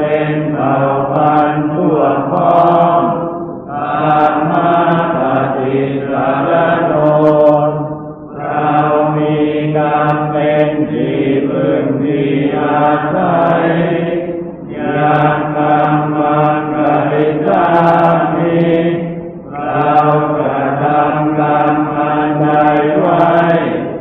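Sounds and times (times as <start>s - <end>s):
monotone chanting: 0.0s - 24.0s.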